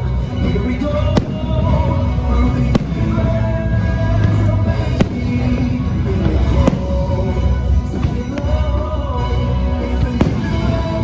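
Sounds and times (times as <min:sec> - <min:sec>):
deep rumble: 0:00.0 - 0:11.0
firework bursts cracking: 0:00.0 - 0:11.0
orchestral music: 0:00.0 - 0:11.0.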